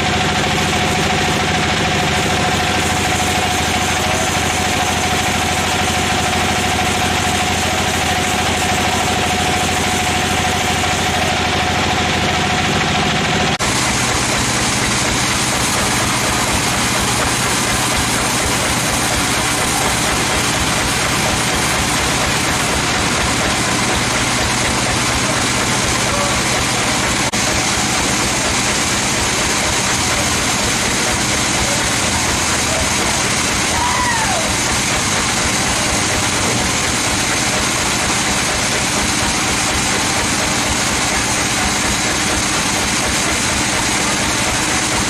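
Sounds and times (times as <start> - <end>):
motor humming: 0.0 - 45.0
sawmill machinery running: 0.0 - 45.0.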